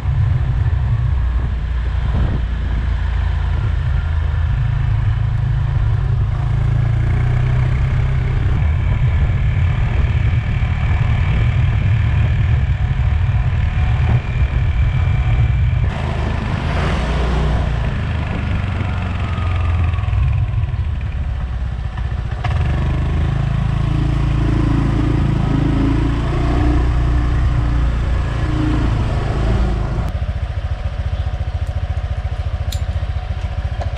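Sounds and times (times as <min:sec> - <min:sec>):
motor scooter running: 0:00.0 - 0:33.9
wind rumbling on microphone: 0:00.0 - 0:33.9.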